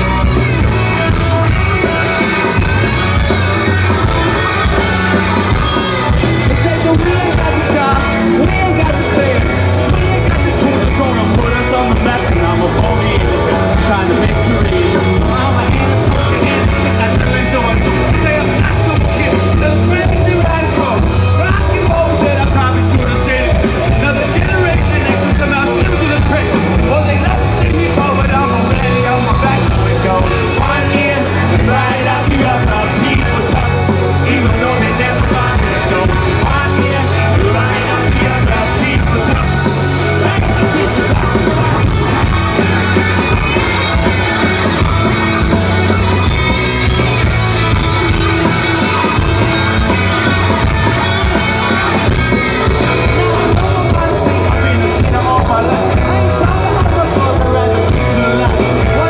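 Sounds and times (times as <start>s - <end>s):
lead singer: 0.0s - 59.0s
live rock band playing: 0.0s - 59.0s.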